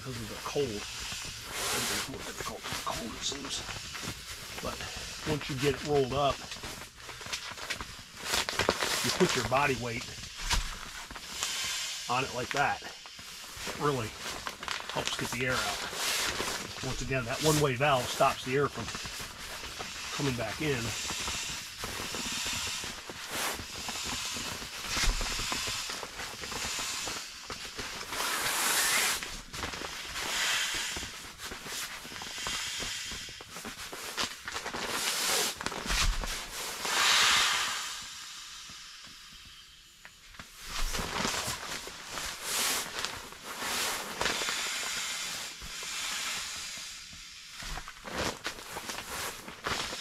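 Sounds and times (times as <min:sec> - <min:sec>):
air hissing from valve: 0:00.0 - 0:06.8, 0:07.5 - 0:50.0
fabric rustling and scraping: 0:00.0 - 0:38.0, 0:40.2 - 0:50.0.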